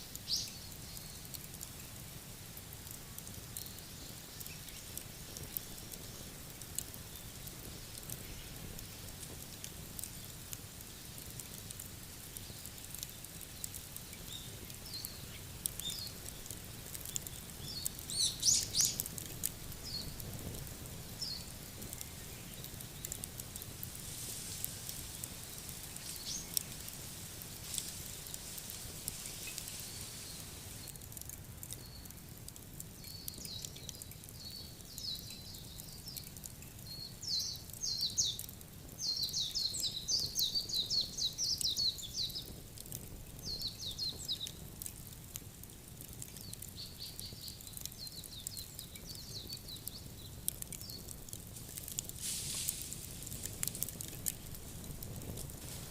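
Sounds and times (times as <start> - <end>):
faint crackles: 0.0 - 55.9
low background hiss: 0.0 - 55.9
small birds chirping: 0.1 - 2.0, 2.8 - 32.2, 32.8 - 45.1, 46.0 - 54.6.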